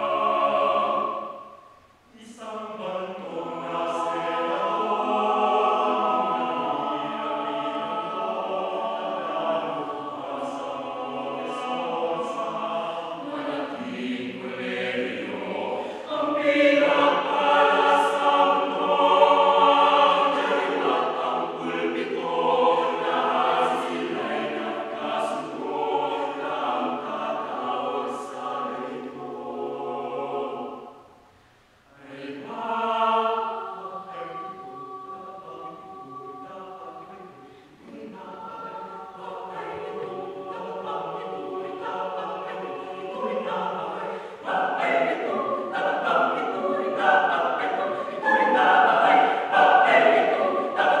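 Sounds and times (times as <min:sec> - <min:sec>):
choir singing in harmony: 0:00.0 - 0:51.0.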